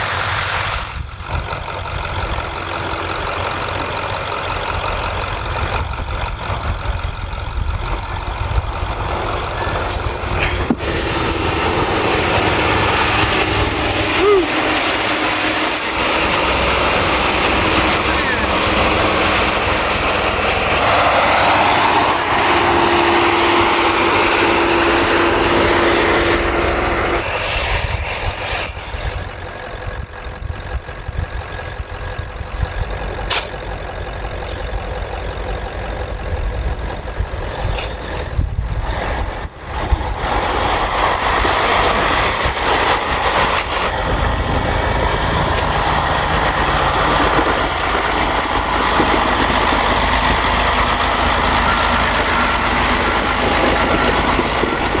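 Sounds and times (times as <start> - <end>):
heavy truck engine running: 0.0 - 55.0.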